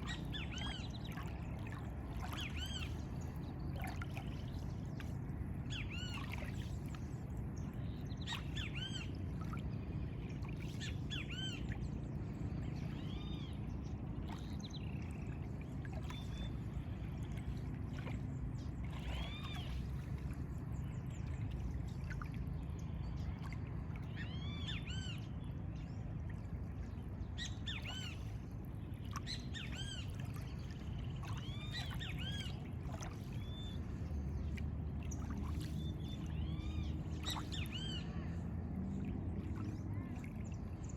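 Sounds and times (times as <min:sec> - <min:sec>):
lagoon water: 0:00.0 - 0:40.9.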